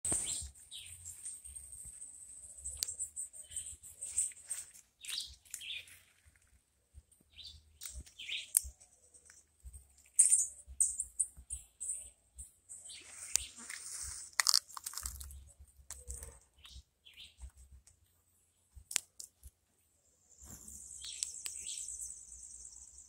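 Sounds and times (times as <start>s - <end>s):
birds chirping: 0.1s - 17.6s, 20.0s - 23.0s.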